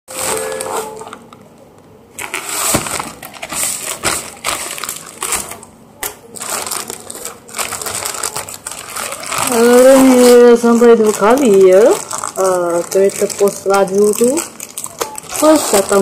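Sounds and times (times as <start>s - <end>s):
plastic packaging crinkling: 2.2s - 16.0s.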